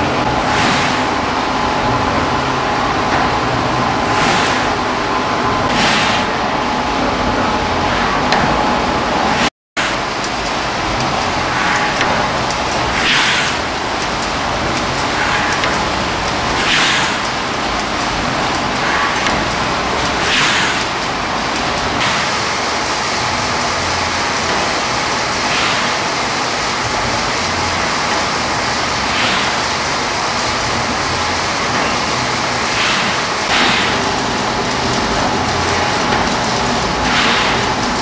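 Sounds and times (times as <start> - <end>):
slicing machine running: 0.0 - 38.0.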